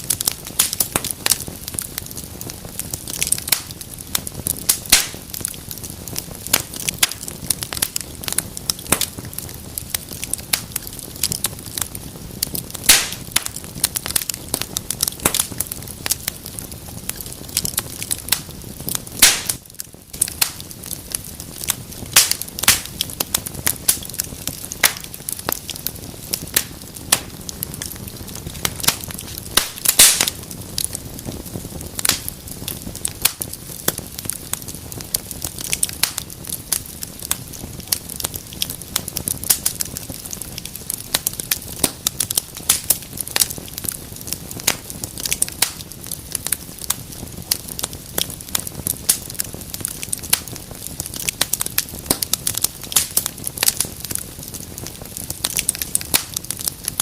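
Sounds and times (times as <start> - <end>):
loud pops from fire: 0.0 - 57.0
wood fire crackling: 0.0 - 57.0.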